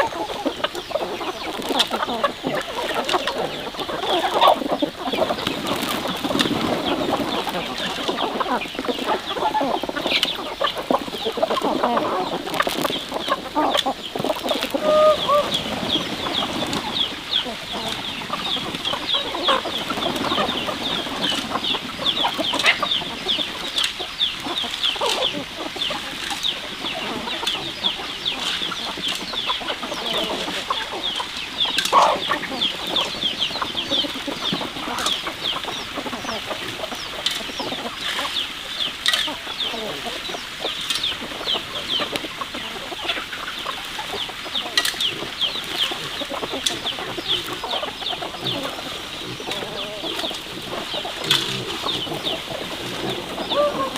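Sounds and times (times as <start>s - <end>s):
chickens clucking: 0.0s - 53.9s
chicks cheeping: 0.0s - 53.9s.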